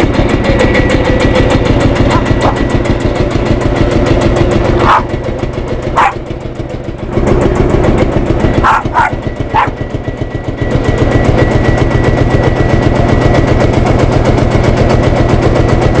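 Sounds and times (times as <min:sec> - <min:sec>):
tractor diesel engine pounding: 0:00.0 - 0:16.0.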